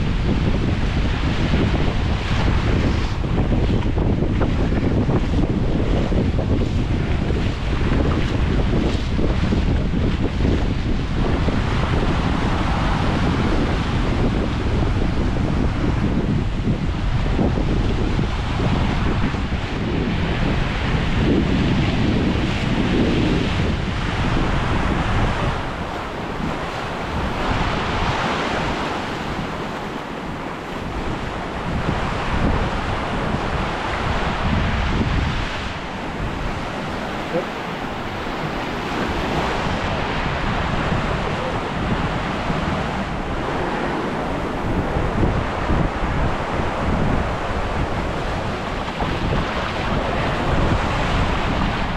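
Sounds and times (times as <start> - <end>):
waves breaking on beach: 0.0 - 51.9
wind buffeting microphone: 0.0 - 51.9.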